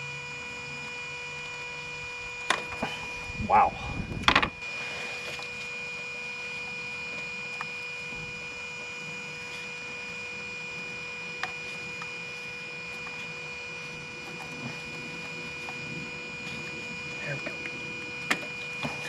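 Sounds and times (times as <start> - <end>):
electrical whine and hum: 0.0 - 19.0.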